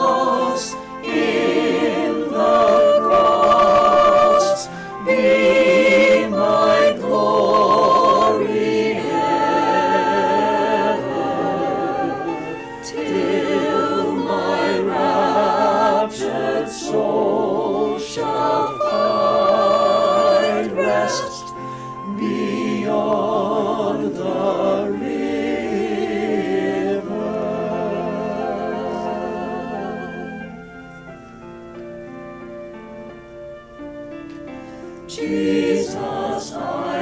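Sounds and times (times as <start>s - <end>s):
choir singing a hymn a cappella: 0.0s - 31.5s, 34.0s - 37.0s.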